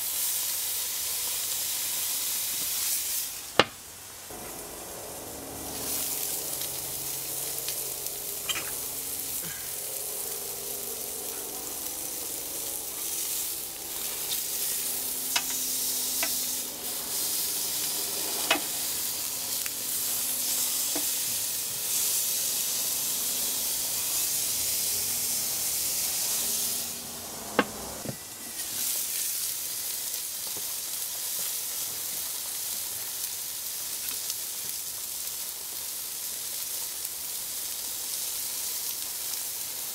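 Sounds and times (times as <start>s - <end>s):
steaks sizzling on grill: 0.0s - 39.9s.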